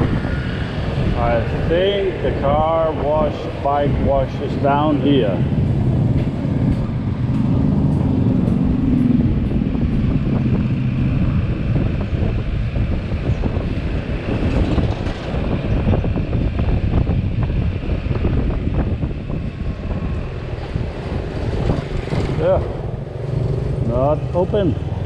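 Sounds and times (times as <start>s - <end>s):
scooter engine and road rumble: 0.0s - 25.0s
wind buffeting microphone: 0.0s - 25.0s.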